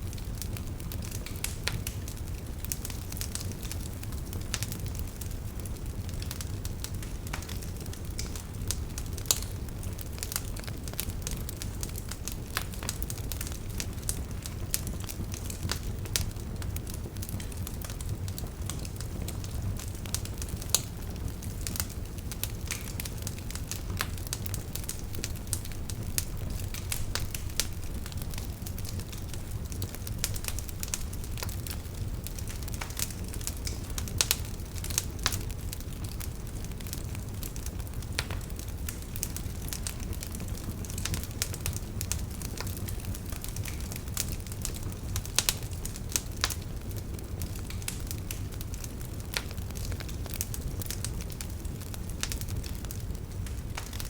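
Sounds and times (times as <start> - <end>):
low fire rumble: 0.0 - 54.0
wood fire crackling and popping: 0.0 - 54.0.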